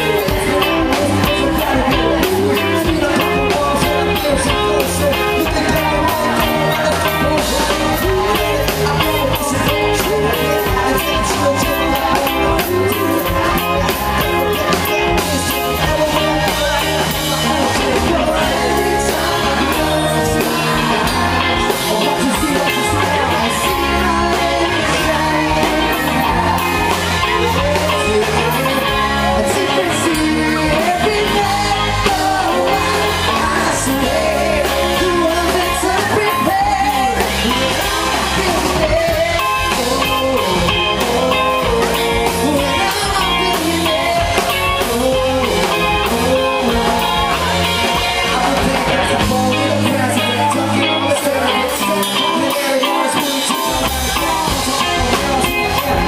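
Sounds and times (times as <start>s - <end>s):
live rock band with singing: 0.0s - 56.0s.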